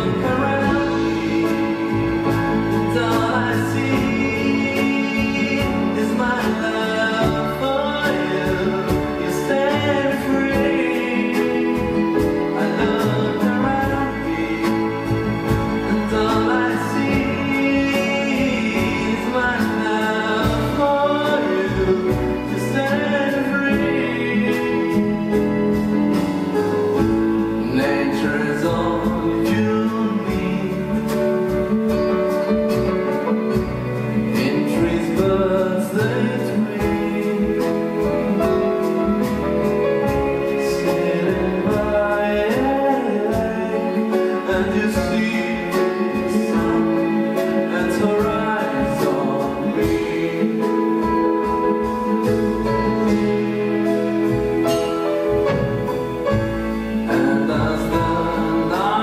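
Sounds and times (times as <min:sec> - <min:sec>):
drums and cymbals beat: 0:00.0 - 0:59.0
man singing: 0:00.0 - 0:59.0
pop ballad with keyboard and strings: 0:00.0 - 0:59.0.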